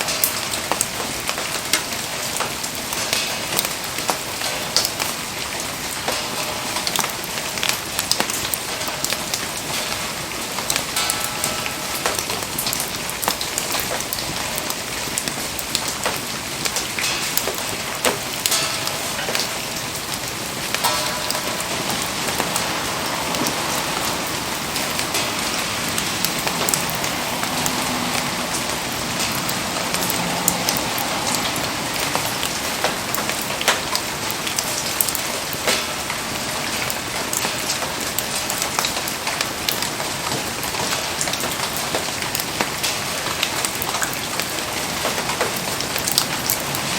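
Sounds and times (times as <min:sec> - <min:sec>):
rain pattering: 0:00.0 - 0:46.9.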